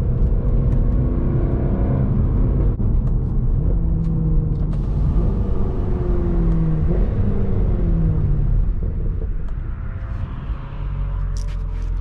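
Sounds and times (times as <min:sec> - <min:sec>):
car engine heard from cabin: 0:00.0 - 0:12.0
road noise: 0:00.0 - 0:12.0.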